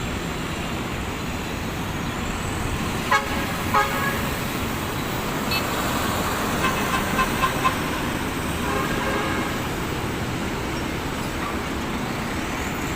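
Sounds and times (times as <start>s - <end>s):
road traffic noise: 0.0s - 12.9s.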